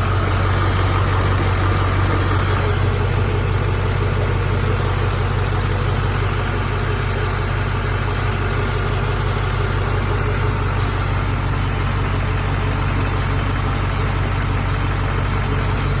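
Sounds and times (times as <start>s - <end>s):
diesel engine idling roughly: 0.0s - 16.0s.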